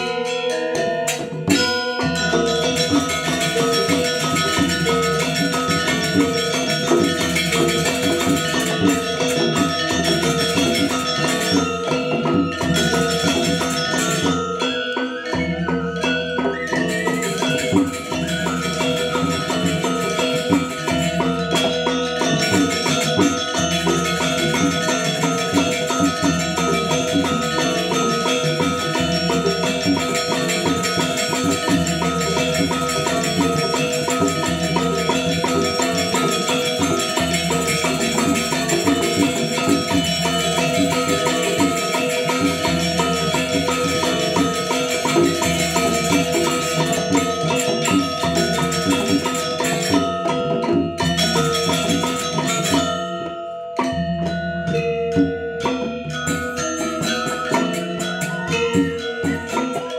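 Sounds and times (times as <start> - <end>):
gamelan ensemble playing: 0.0 - 59.9.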